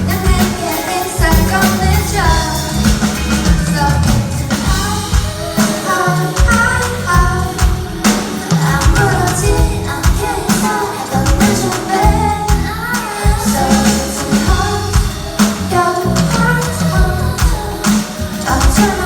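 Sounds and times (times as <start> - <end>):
live pop band with heavy bass: 0.0 - 19.0
person singing: 0.0 - 19.0.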